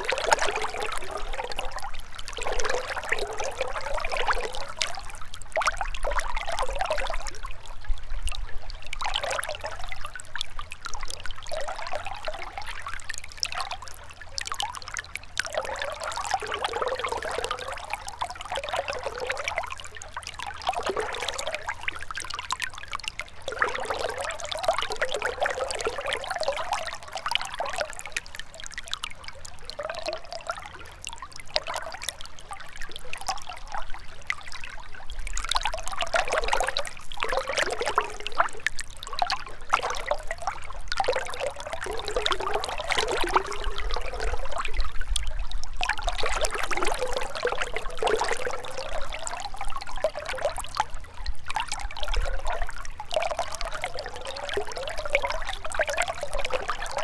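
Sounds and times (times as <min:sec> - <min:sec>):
river trickling over stones: 0:00.0 - 0:57.0.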